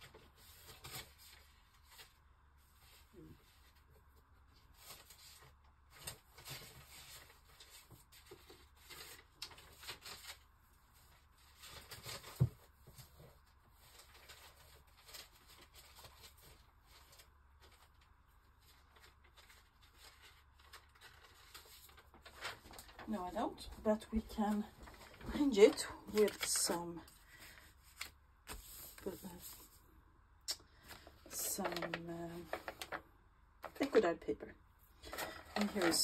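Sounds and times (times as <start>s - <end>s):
paper rustling and shuffling: 0.0s - 29.9s, 30.7s - 34.3s, 34.9s - 36.0s.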